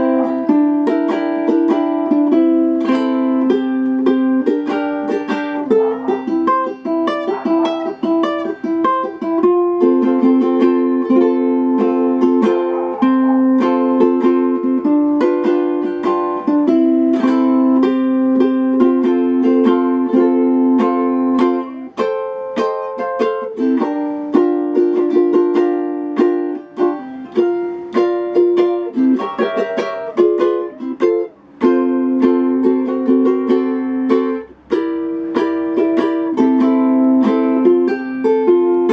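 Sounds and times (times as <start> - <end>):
ukulele strumming: 0.0 - 38.9.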